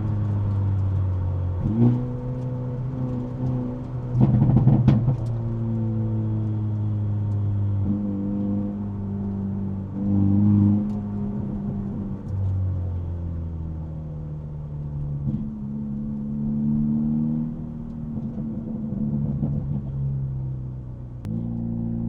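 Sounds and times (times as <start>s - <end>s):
muffled car exhaust note: 0.0s - 12.5s, 15.0s - 22.0s.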